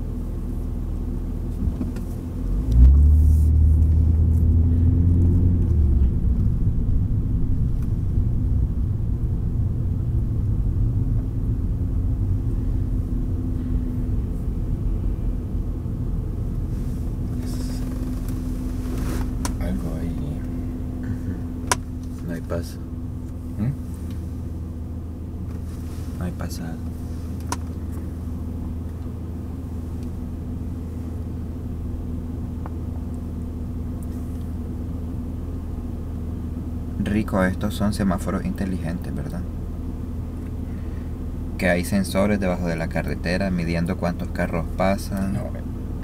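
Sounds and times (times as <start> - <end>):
car engine and tyres rumble: 0.0 - 46.0
steady hum: 0.0 - 46.0.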